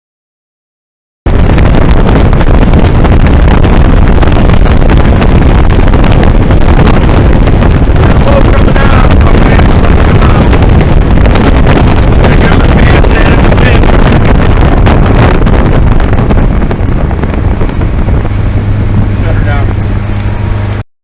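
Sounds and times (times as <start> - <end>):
boat engine running: 1.3 - 20.8
wind buffeting microphone: 1.3 - 20.8.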